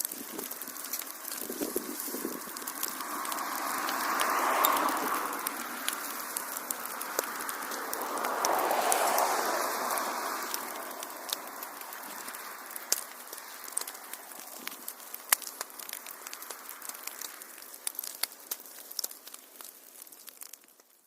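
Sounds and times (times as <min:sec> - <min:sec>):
rushing fire hiss: 0:00.0 - 0:20.3
wood fire pops and snaps: 0:00.0 - 0:21.0.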